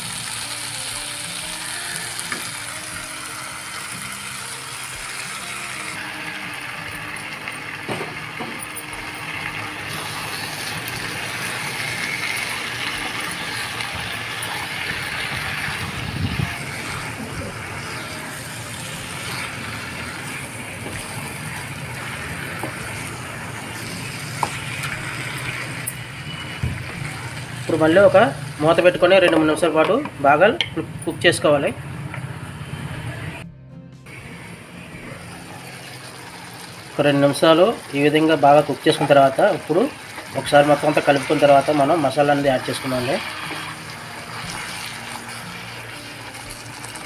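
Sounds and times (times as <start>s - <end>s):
chicken sizzling in a pan: 0.0s - 29.4s, 34.1s - 47.0s.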